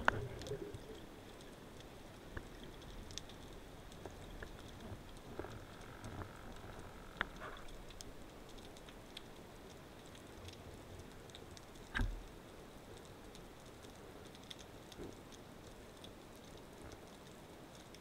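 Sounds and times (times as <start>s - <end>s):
underwater crackling and ticking: 0.0s - 18.0s.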